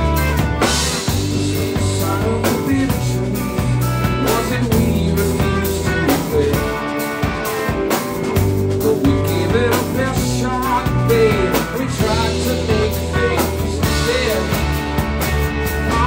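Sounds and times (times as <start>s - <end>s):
bass line: 0.0s - 16.0s
drums: 0.0s - 16.0s
guitar with bent notes: 0.0s - 16.0s.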